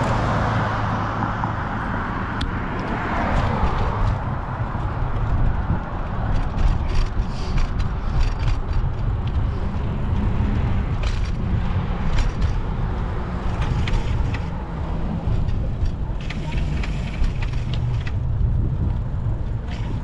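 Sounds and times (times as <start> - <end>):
road and traffic rumble: 0.0 - 20.0
sharp clicks and rattles: 2.4 - 20.0.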